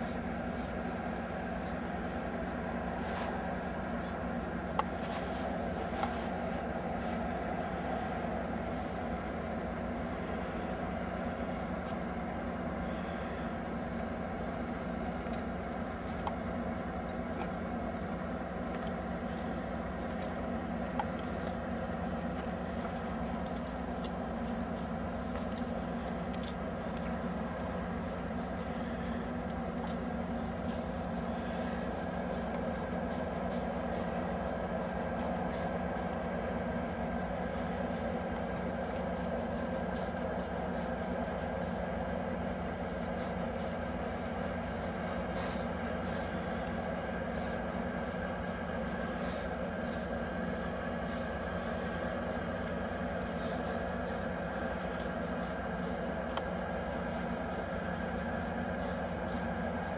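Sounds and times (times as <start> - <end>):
machinery drone and hum: 0.0 - 59.9.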